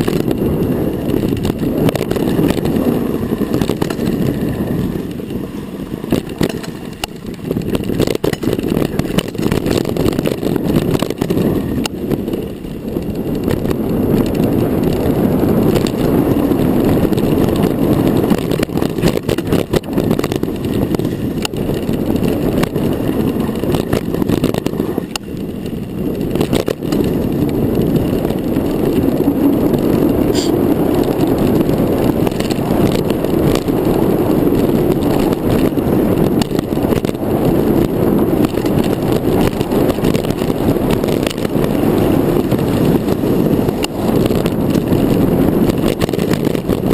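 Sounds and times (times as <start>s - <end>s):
bike rattles and knocks: 0.0s - 46.9s
tyre noise on dirt: 0.0s - 46.9s
wind buffeting microphone: 0.0s - 46.9s.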